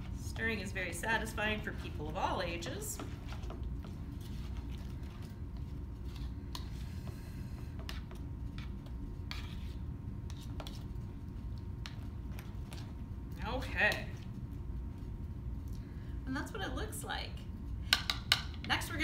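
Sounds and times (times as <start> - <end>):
spatula stirring in a bowl: 0.0 - 15.6
steady low hum: 0.0 - 19.0.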